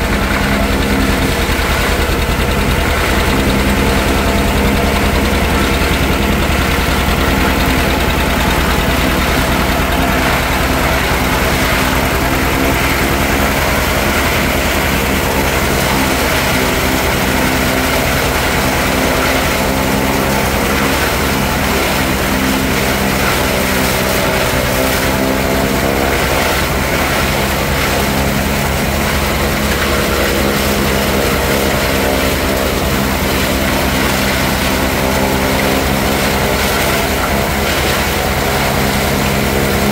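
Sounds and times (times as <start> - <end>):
forage chopper cutting corn: 0.0 - 39.9
tractor engine running: 0.0 - 39.9.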